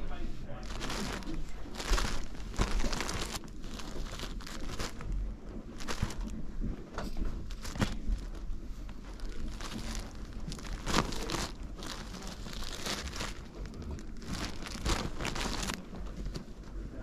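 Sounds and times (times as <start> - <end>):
plastic packaging crinkling: 0.5 - 16.8.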